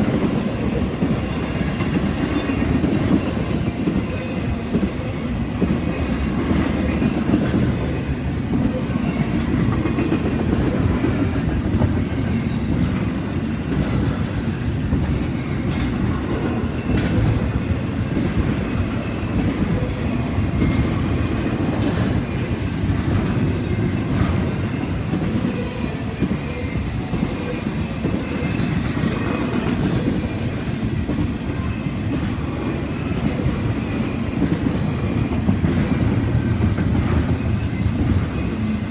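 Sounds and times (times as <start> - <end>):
wheels clacking over rail joints: 0.0 - 38.8
freight train rumbling past: 0.0 - 38.9.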